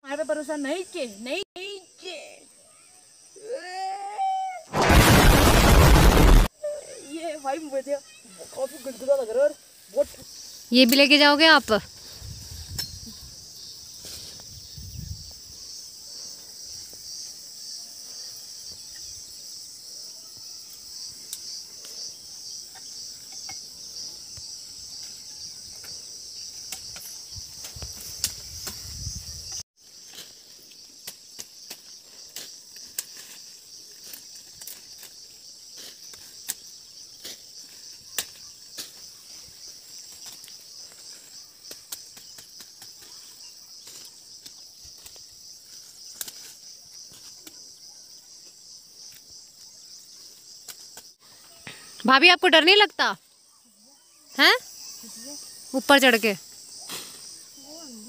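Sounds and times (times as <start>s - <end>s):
insect chorus drone: 0.0s - 58.0s.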